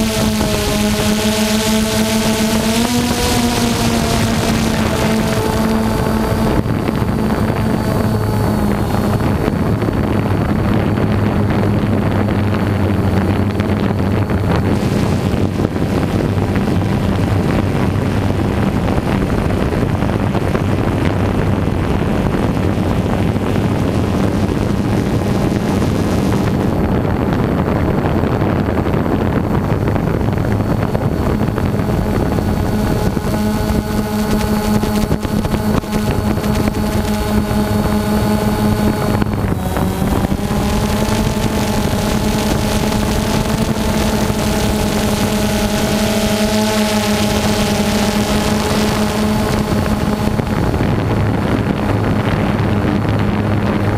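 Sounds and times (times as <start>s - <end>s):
drone motors humming: 0.0s - 53.9s
wind rushing on microphone: 0.0s - 53.9s.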